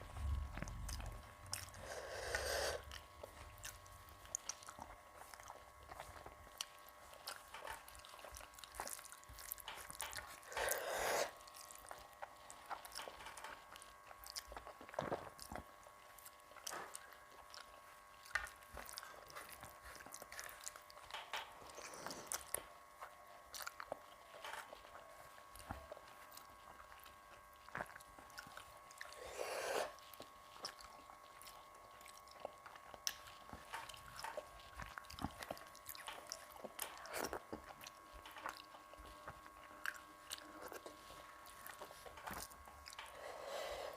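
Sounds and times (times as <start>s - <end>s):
faint steady hum: 0.0s - 43.9s
person chewing food: 0.0s - 43.9s.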